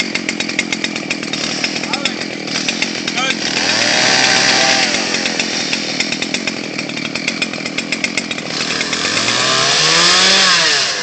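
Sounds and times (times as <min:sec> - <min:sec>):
chainsaw cutting: 0:00.0 - 0:11.0.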